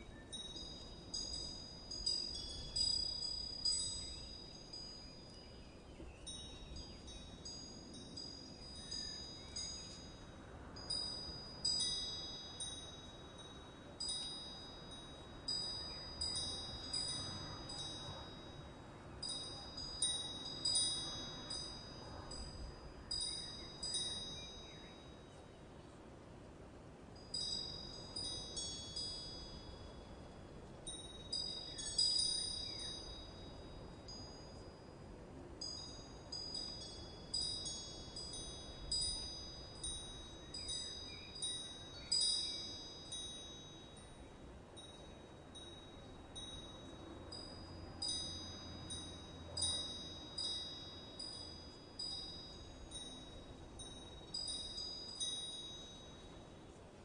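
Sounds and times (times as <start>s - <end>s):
wind chimes ringing: 0.0s - 25.5s, 27.1s - 57.0s
faint steady hiss: 0.0s - 57.0s.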